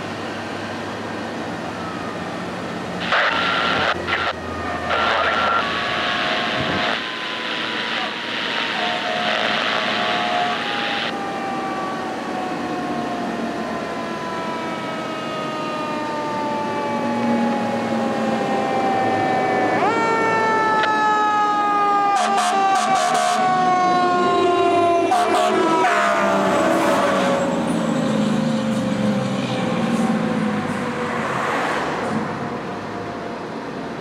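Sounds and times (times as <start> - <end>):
fire engine siren wailing: 0.0 - 34.0.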